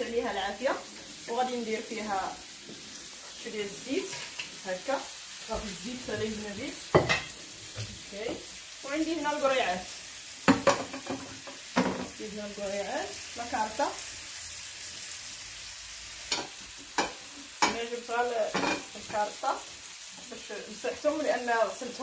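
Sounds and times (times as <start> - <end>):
hot oil sizzling in a frying pan: 0.0 - 22.0.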